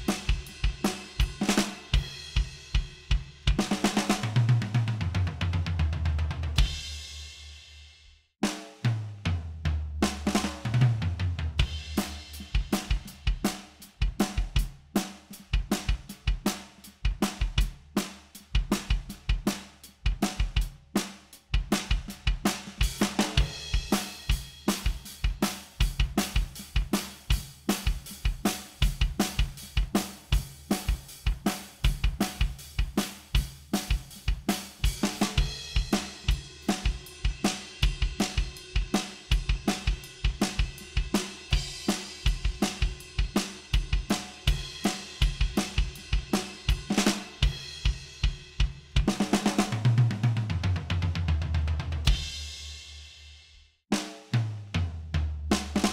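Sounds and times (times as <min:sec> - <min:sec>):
acoustic drum kit groove: 0:00.0 - 0:55.9.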